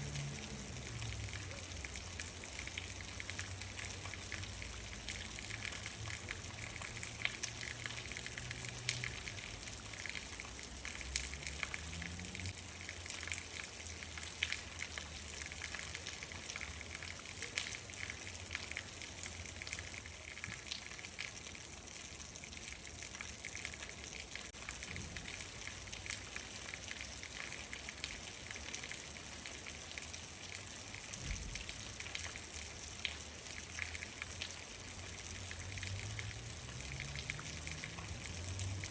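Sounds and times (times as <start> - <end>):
rain falling: 0.0 - 38.9
raindrops hitting a surface: 0.0 - 38.9.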